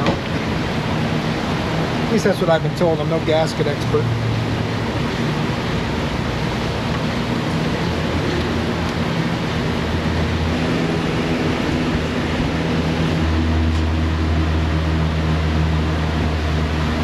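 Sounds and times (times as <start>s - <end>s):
mechanical drone with low hum: 0.0s - 17.0s.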